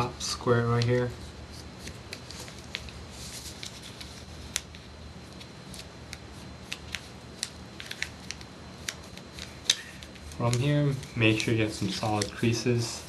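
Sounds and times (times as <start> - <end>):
faint steady hum: 0.0 - 13.0
paper being folded and creased: 0.6 - 13.0.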